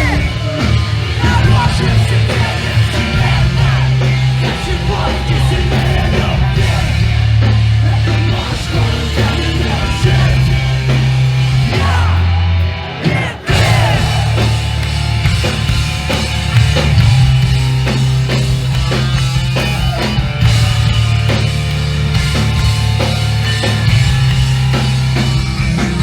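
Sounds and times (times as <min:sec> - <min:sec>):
punk band playing loud: 0:00.0 - 0:26.0.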